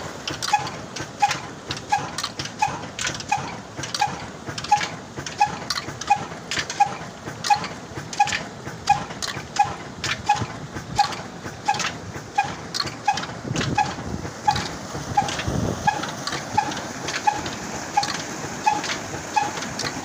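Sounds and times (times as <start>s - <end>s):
old engine running slowly: 0.0s - 20.0s
sharp clacking knocks: 0.2s - 20.0s.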